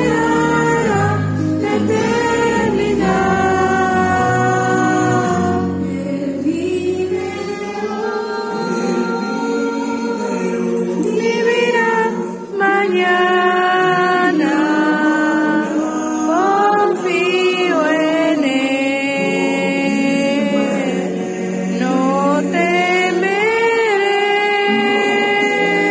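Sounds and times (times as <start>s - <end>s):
girl singing a hymn: 0.0s - 25.9s
sustained musical accompaniment: 0.0s - 25.9s.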